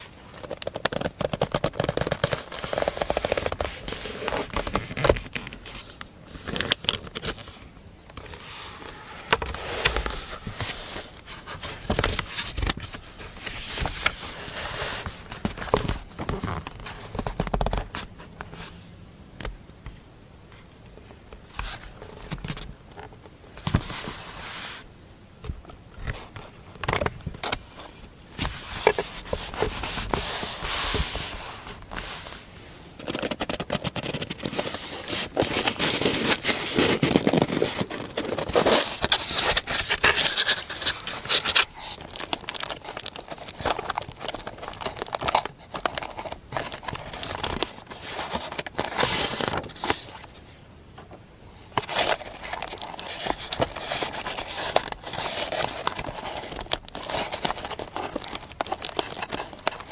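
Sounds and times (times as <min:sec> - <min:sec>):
paper rustling and crinkling: 0:00.2 - 0:07.6, 0:08.2 - 0:18.8, 0:25.4 - 0:59.9.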